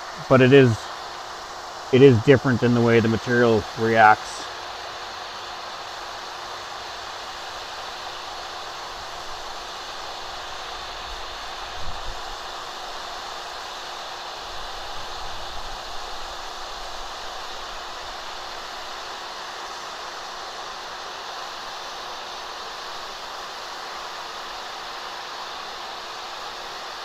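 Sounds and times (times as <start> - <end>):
heat gun blowing air: 4.4 - 27.0.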